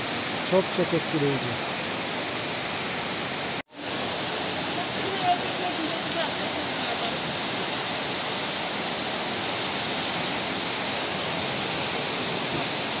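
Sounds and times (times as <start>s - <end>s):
waterfall pouring into a pool: 0.0s - 13.0s.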